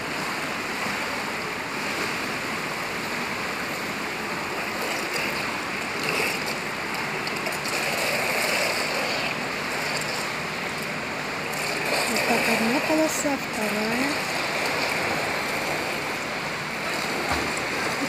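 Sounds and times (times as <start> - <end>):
pool water rushing and splashing: 0.0 - 18.0.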